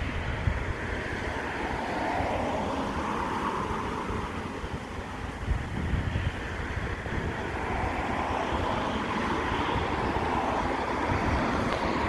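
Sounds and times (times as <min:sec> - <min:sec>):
distant engine roar: 0:00.0 - 0:12.0
wind buffeting microphone: 0:00.0 - 0:12.0.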